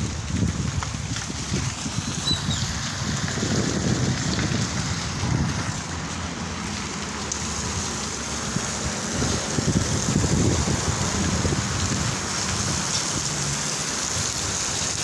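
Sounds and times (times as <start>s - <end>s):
fountain water splashing: 0.0s - 15.0s
wind buffeting microphone: 0.0s - 15.0s.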